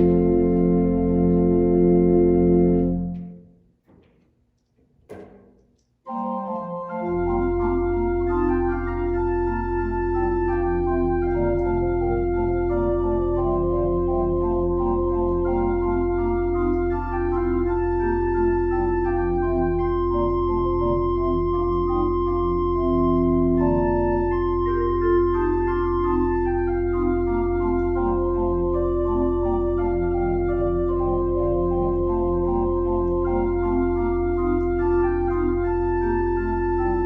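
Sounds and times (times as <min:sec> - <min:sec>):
church organ playing: 0:00.0 - 0:03.6, 0:06.1 - 0:37.0.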